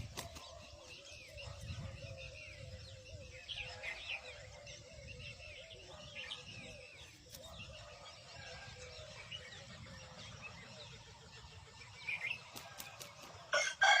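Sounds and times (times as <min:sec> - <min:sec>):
birds chirping: 0:00.0 - 0:14.0
faint outdoor background: 0:00.0 - 0:14.0.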